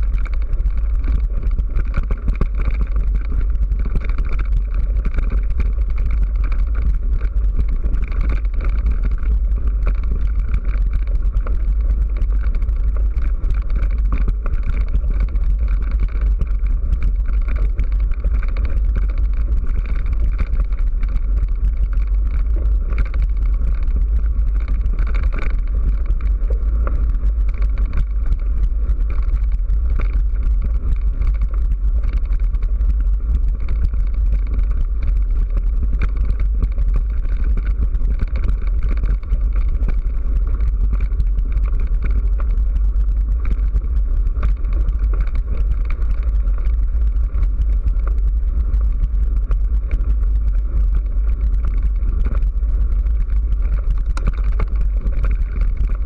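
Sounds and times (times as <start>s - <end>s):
bike tyres rolling on dirt: 0.0s - 56.0s
small rattles: 0.0s - 56.0s.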